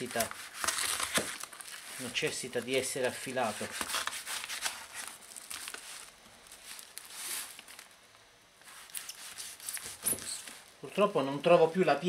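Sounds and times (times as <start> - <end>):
knife scraping plastic wrapping: 0.0 - 7.8, 8.6 - 10.6
plastic crinkling and rustling: 0.0 - 10.8.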